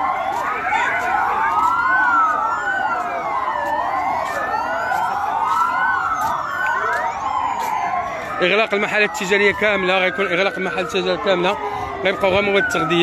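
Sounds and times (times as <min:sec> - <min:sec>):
sirens wailing: 0:00.0 - 0:13.0.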